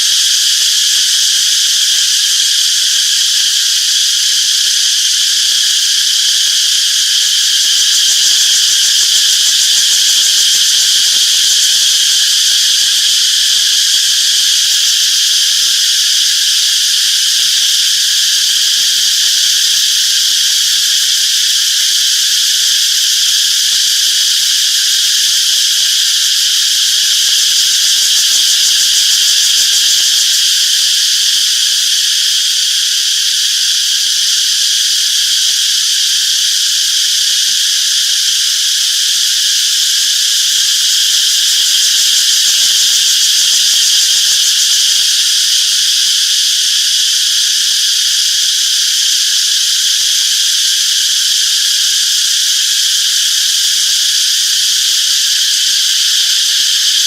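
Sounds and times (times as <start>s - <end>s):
cicadas chirping: 0.0s - 57.0s.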